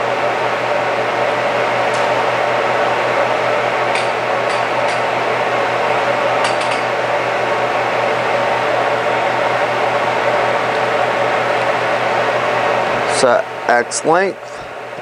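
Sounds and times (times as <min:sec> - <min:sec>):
lathe fan-like drone: 0:00.0 - 0:15.0.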